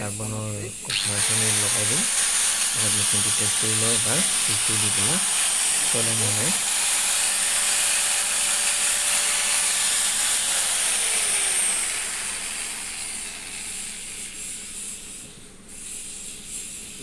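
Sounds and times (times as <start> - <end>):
electric motor whining: 0.0 - 16.2.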